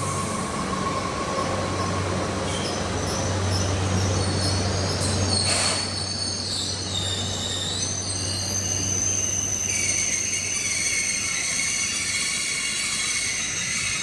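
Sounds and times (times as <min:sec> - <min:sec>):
train rumble: 0:00.0 - 0:14.0
train wheels squealing: 0:00.0 - 0:14.0.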